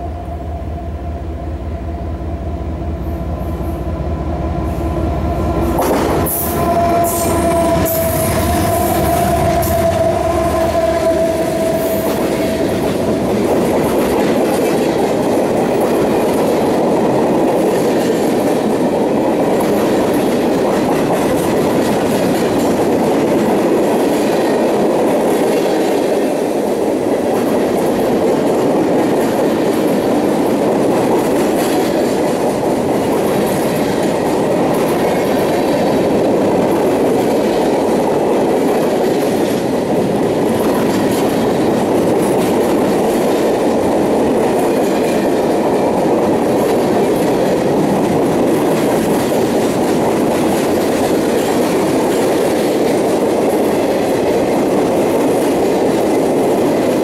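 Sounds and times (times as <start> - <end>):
freight train rumbling past: 0.0 - 57.0
train wheels clattering on rails: 4.9 - 57.0.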